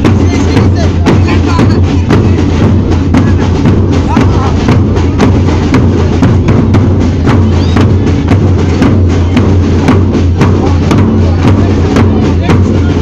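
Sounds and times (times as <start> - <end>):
bass drums marching beat: 0.0 - 13.0
side drum rolls: 0.0 - 13.0.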